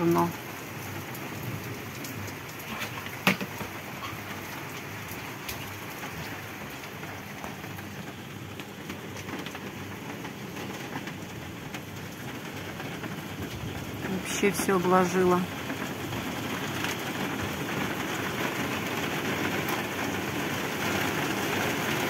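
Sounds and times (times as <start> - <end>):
heavy rain pouring on roof: 0.0 - 22.0.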